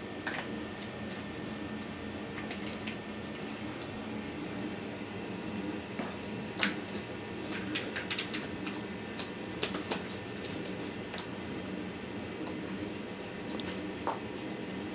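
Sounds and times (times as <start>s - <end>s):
low room hum: 0.0s - 14.9s.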